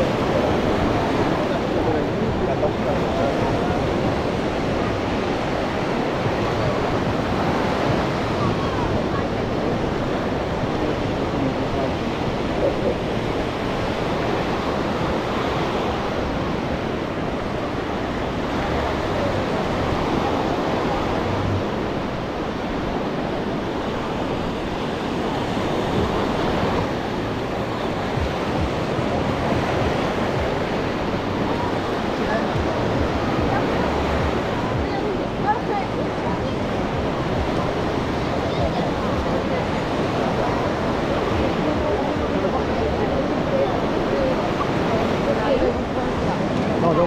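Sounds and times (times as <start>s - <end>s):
sea waves washing onto beach: 0.0s - 47.0s
wind buffeting microphone: 0.0s - 47.0s.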